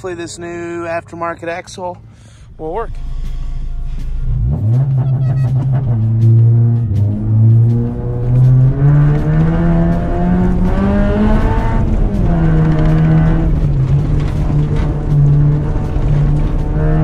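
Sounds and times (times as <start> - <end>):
car engine pulling hard: 2.6 - 17.0.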